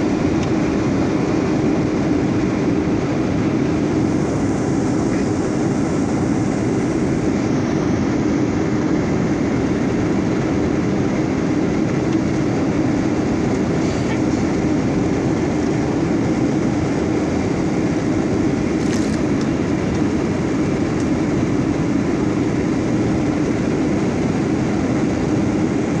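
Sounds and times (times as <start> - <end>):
airliner cabin engine rush: 0.0 - 26.0.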